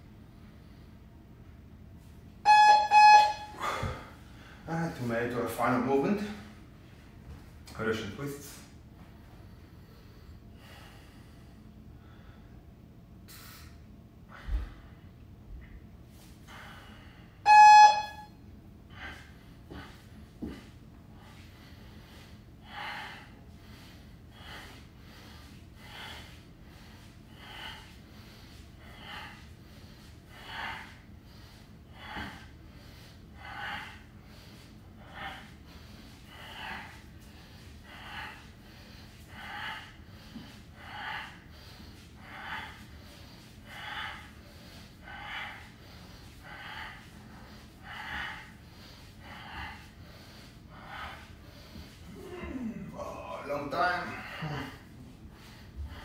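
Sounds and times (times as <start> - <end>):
man breathing hard: 3.5 - 4.8, 9.0 - 15.2, 16.2 - 17.5, 18.9 - 56.0.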